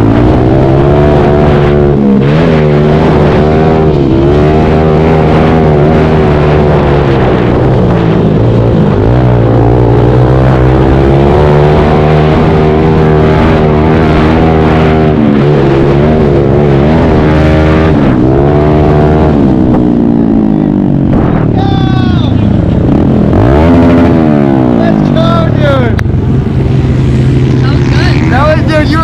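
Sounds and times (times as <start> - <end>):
pit bike engine running hard: 0.0 - 29.0.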